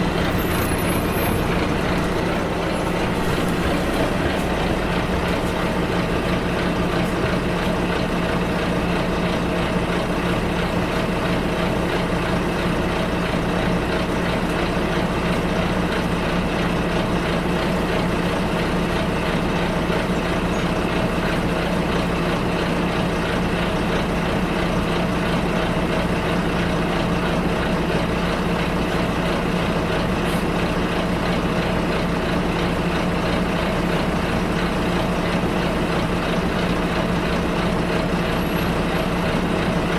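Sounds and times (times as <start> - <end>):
bus cabin noise: 0.0 - 39.9
bus engine droning: 0.0 - 39.9.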